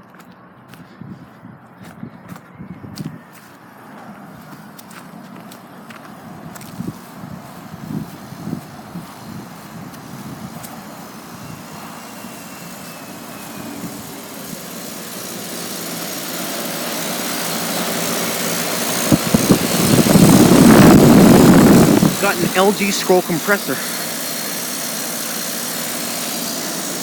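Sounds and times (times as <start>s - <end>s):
air-conditioner unit running: 3.7s - 27.0s.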